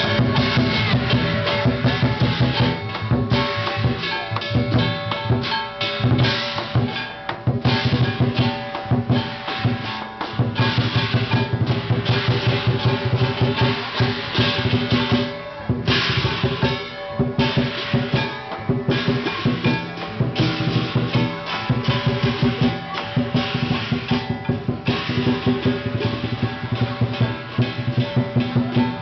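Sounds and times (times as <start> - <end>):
large drum beaten fast: 0.0 - 29.0
ringing cymbals: 0.0 - 29.0.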